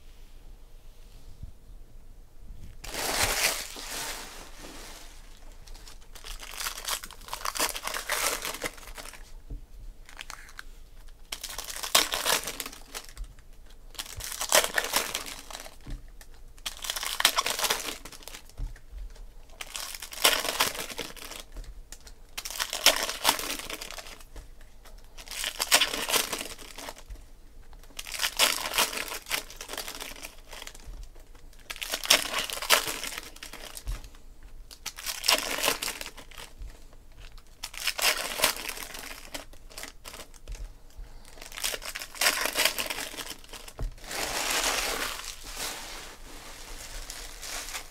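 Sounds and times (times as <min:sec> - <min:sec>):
foil wrappers tearing and crinkling: 0:02.8 - 0:09.4, 0:10.0 - 0:47.9.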